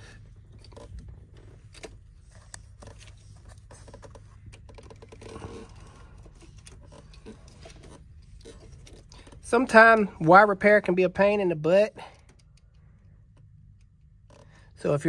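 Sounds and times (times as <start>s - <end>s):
clicks and scraping of wires: 0.0s - 10.3s, 12.1s - 14.9s.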